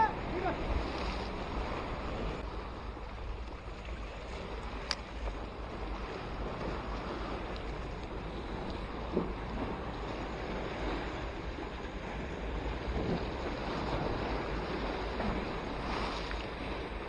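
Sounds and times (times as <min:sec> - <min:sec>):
sea waves washing against concrete: 0:00.0 - 0:17.0
wind buffeting microphone: 0:00.0 - 0:17.0.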